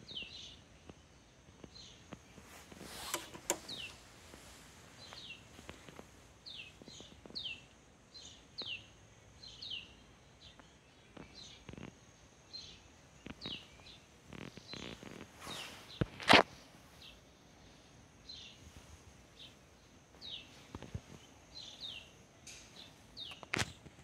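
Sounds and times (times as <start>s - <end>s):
bird chirping: 0.0s - 4.1s, 6.4s - 16.1s, 16.9s - 23.9s.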